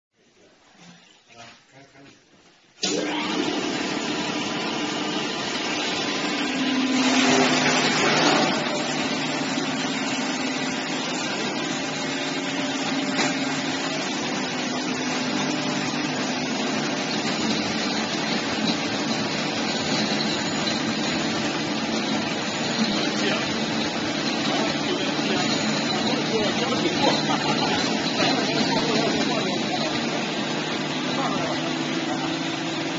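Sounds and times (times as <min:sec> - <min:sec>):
grinding mill motor humming: 0:02.8 - 0:32.9.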